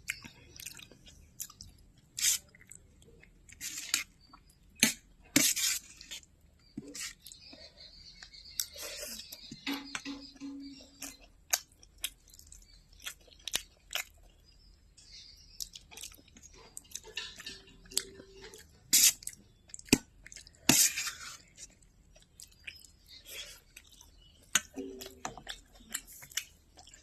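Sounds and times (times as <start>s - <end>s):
person chewing crunchy food: 0.0s - 10.0s, 10.8s - 14.6s, 15.5s - 27.0s.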